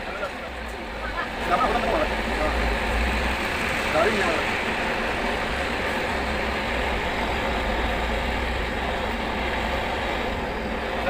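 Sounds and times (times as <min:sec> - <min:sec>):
machine low drone: 0:00.0 - 0:11.0.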